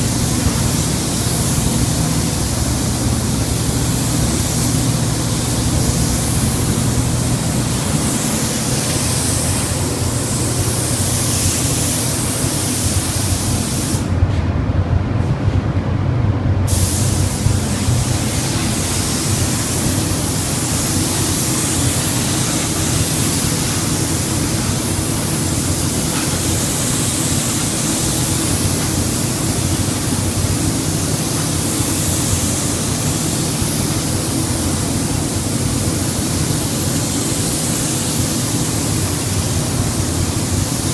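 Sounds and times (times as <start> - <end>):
paint spray gun hissing: 0.0 - 14.1, 16.7 - 40.9.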